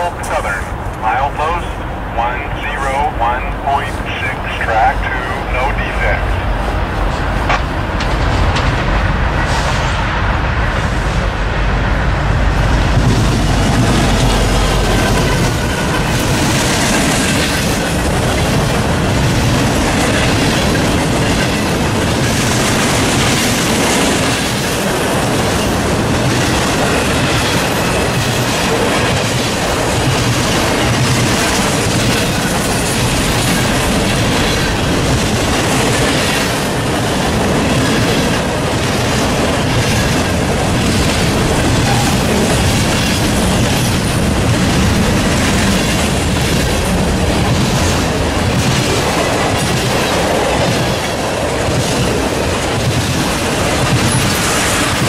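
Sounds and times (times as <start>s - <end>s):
freight train wheels clacking: 5.1s - 55.0s.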